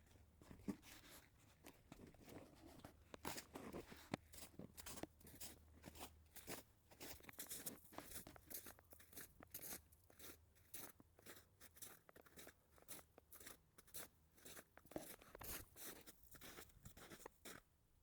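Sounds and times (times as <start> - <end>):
footsteps crunching in snow: 3.2 - 17.6.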